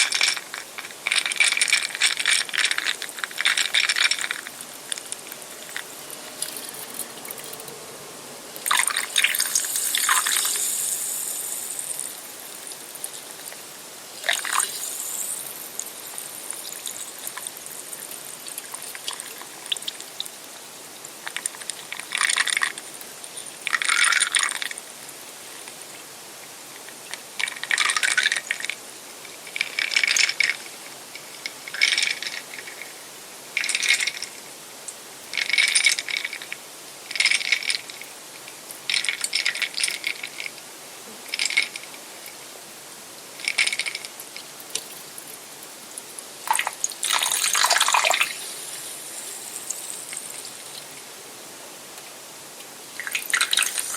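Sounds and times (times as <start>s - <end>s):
soda fizzing: 0.0s - 25.9s, 27.1s - 28.8s, 29.4s - 34.4s, 35.3s - 40.6s, 41.2s - 42.4s, 43.2s - 51.1s, 52.9s - 53.9s.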